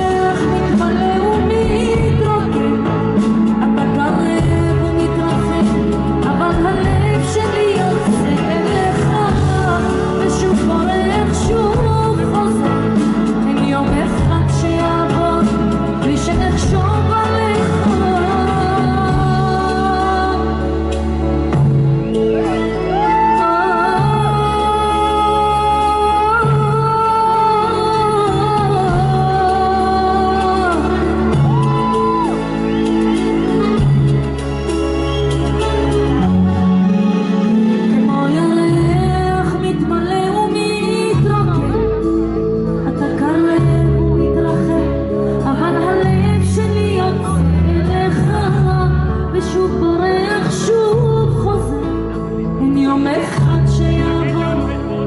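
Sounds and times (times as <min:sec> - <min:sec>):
woman singing: 0:00.0 - 0:34.4, 0:37.8 - 0:55.0
bass guitar: 0:00.0 - 0:55.0
electric guitar: 0:00.0 - 0:55.0.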